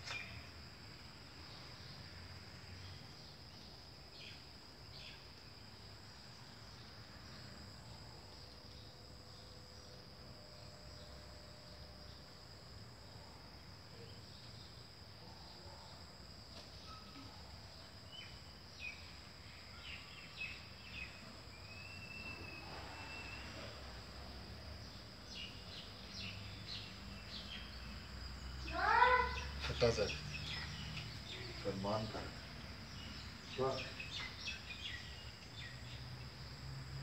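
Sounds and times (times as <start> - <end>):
crickets chorus: 0.0 - 37.0
short insect chirps: 0.0 - 37.0.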